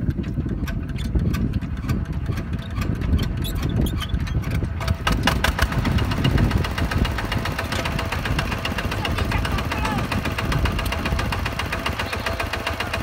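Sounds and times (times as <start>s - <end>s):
diesel engine knocking beat: 0.0s - 13.0s.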